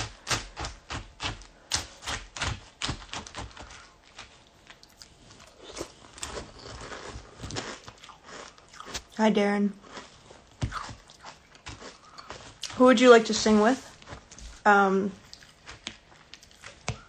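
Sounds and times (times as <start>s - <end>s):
crunchy chewing of cereal: 0.0s - 12.9s, 15.2s - 17.0s.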